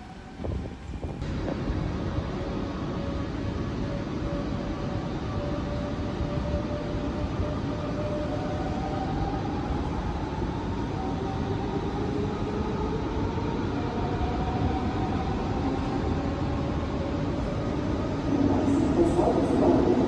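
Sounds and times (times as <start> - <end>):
electric train rumbling on rails: 0.0 - 20.0.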